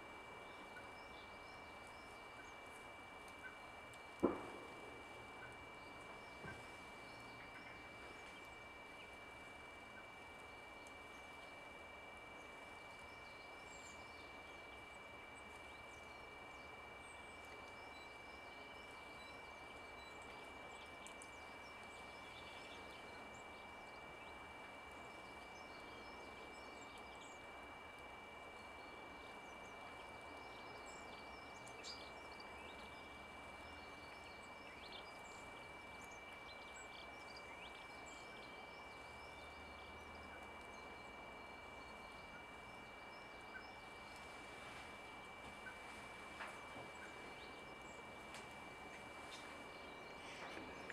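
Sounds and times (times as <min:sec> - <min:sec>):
background hiss: 0:00.0 - 0:50.9
songbirds chirping: 0:00.0 - 0:50.9.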